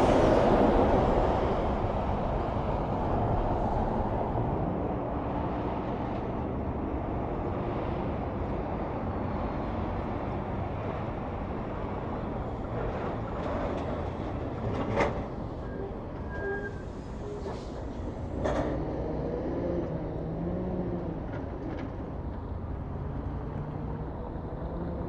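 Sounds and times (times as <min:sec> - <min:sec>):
trucks passing on highway: 0:00.0 - 0:25.0.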